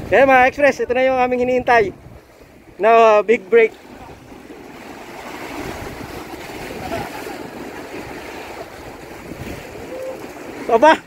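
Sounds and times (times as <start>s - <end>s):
wind gusting on microphone: 0.0s - 3.0s, 3.7s - 10.8s
sea waves breaking on rocks: 1.9s - 11.0s.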